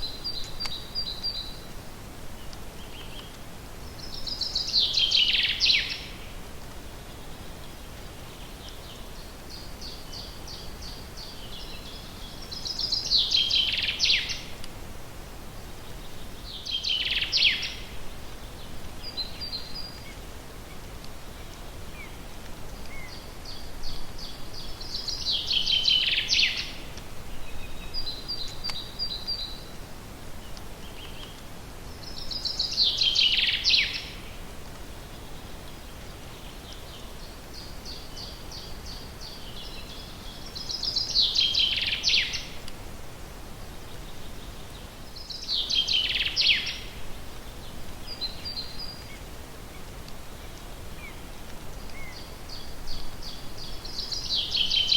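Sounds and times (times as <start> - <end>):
songbird singing: 0.0 - 14.8, 15.4 - 54.9
faint steady hiss: 0.0 - 54.9.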